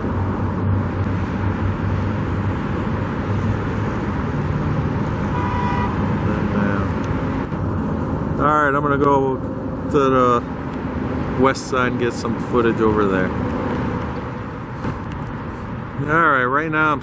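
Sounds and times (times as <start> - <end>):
road traffic from passing cars: 0.0 - 17.0.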